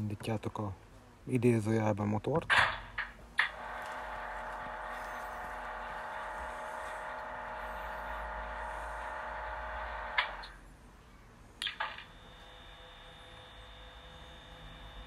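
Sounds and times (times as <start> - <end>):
electrical hum from small speaker: 0.0 - 15.0.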